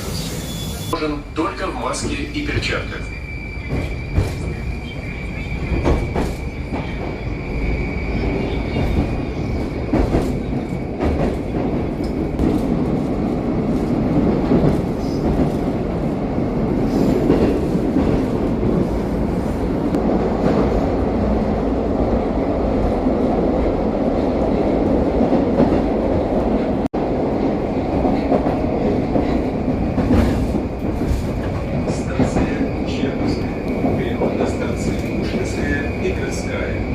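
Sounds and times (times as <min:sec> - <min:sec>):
train wheels rumbling on rails: 0:00.0 - 0:36.9
rail joint clicks: 0:02.0 - 0:20.8, 0:23.6 - 0:36.9.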